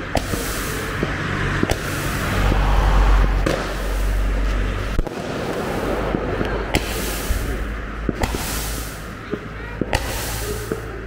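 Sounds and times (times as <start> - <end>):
fireworks pops: 0.0 - 2.0, 3.4 - 11.0
fireworks cracks: 0.0 - 11.0
fireworks rushing: 0.0 - 11.0.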